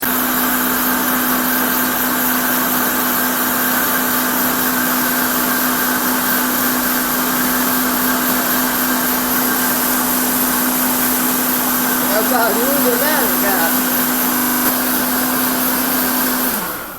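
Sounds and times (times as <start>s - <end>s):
electric blender running: 0.0s - 16.9s.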